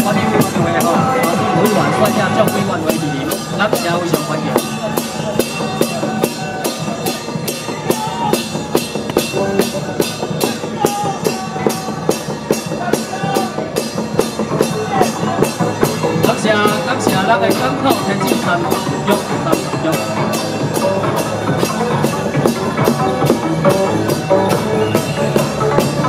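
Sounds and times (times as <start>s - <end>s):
drum and cymbal beat: 0.0s - 26.0s
procession band playing a tune: 0.0s - 26.0s.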